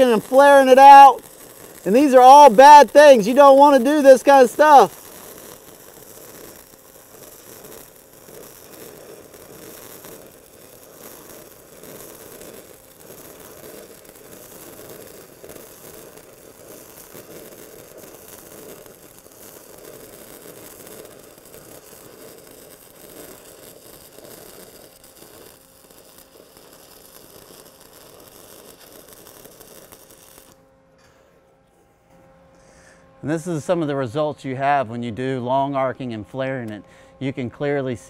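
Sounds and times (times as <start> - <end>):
welding arc crackling: 0.0 - 30.7.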